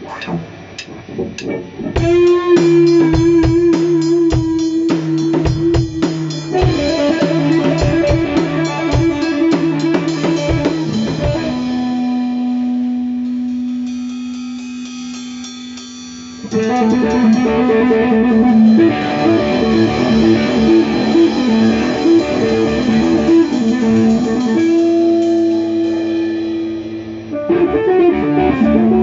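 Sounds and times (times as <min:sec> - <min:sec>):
guitar plucks: 0:00.0 - 0:13.5, 0:16.5 - 0:29.0
bass: 0:00.0 - 0:29.0
guitar playing held notes: 0:00.0 - 0:29.0
drum beat: 0:02.0 - 0:27.1.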